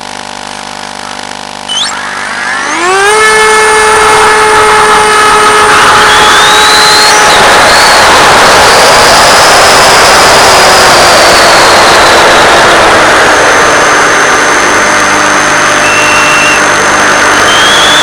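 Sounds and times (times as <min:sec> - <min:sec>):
model plane motor and propeller: 0:00.0 - 0:09.2, 0:09.9 - 0:18.0.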